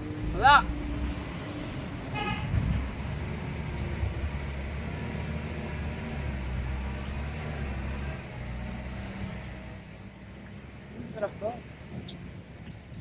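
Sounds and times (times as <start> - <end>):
passing vehicle rumble: 0.0 - 13.0.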